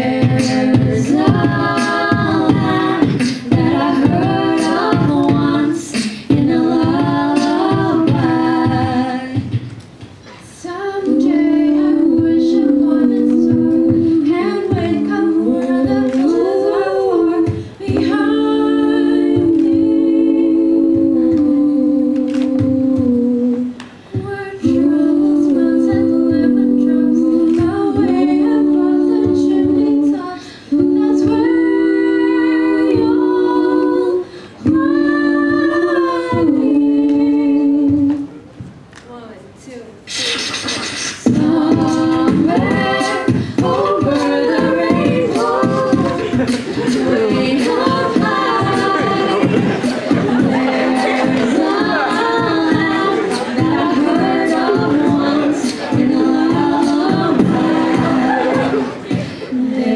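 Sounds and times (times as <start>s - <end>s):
a cappella group singing in harmony: 0.0s - 38.9s, 40.0s - 59.9s.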